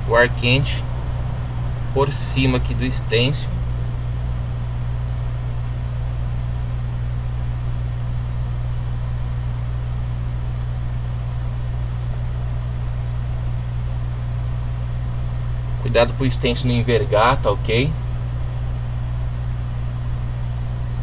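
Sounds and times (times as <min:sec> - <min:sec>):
hot air station humming: 0:00.0 - 0:21.0.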